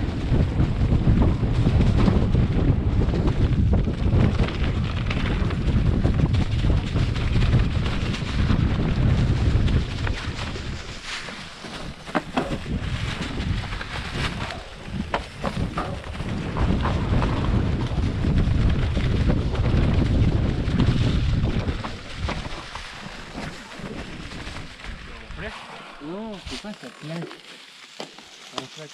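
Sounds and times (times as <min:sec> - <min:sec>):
bike clicks and rattles: 0:00.0 - 0:25.4
wind buffeting microphone: 0:00.0 - 0:26.6
tyres over dry leaves and dirt: 0:00.1 - 0:28.9.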